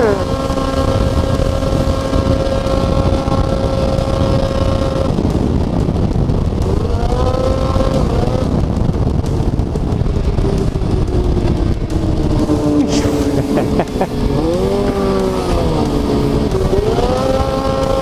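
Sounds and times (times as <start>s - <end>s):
heavy wind: 0.0s - 18.0s
snowmobile engine running: 0.0s - 18.0s
track noise: 0.0s - 18.0s.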